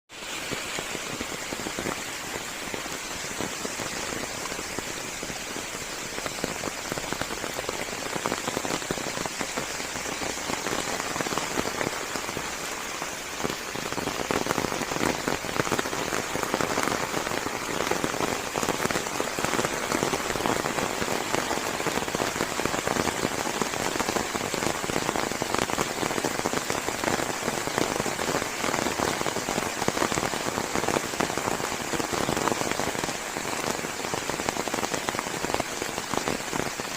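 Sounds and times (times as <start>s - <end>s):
rain on leaves: 0.1s - 36.9s.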